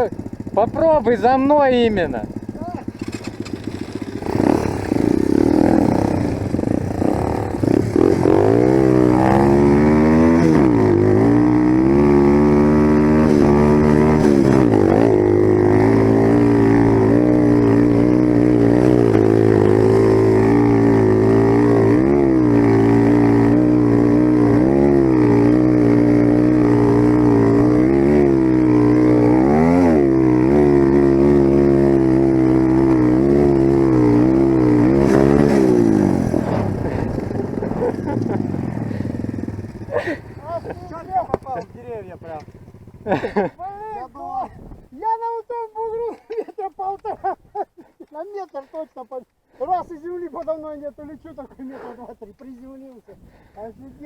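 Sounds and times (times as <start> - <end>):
dirt bike engine revving: 0.0 - 44.6.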